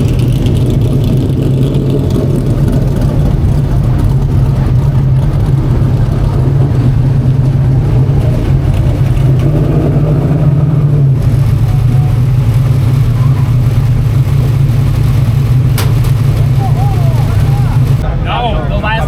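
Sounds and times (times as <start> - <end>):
race car engines droning: 0.0 - 19.0.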